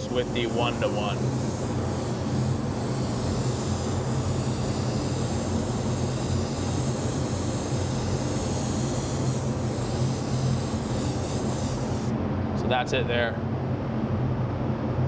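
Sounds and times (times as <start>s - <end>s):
airbrush spraying hiss: 0.0s - 12.1s
exhaust fan hum: 0.0s - 15.0s.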